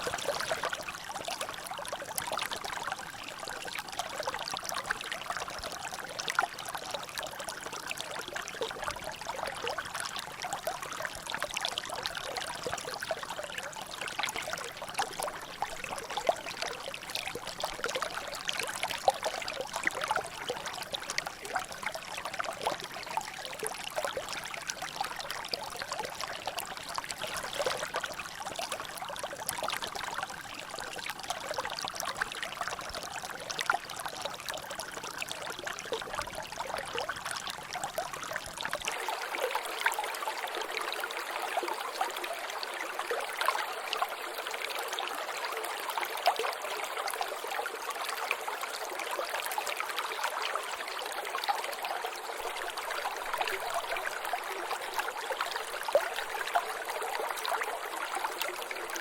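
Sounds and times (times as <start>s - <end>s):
water trickling and dripping: 0.0s - 59.0s.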